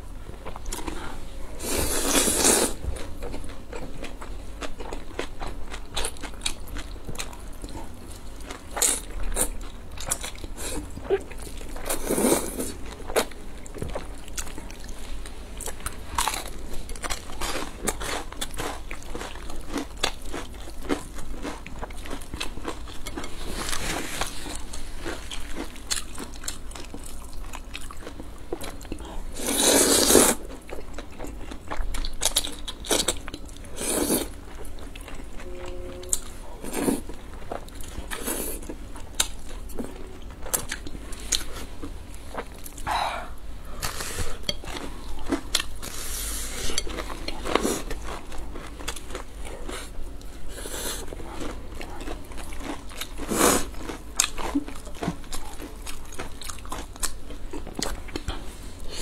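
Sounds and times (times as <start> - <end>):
wet chewing with crunchy bites: 1.8 - 58.8.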